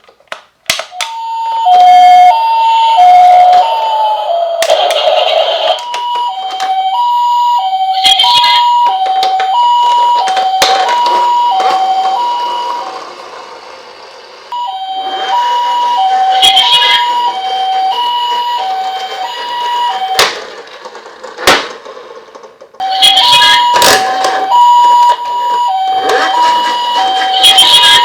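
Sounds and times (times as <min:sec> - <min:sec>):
toy two-tone siren: 0:00.9 - 0:13.8, 0:14.5 - 0:20.6, 0:22.8 - 0:28.0.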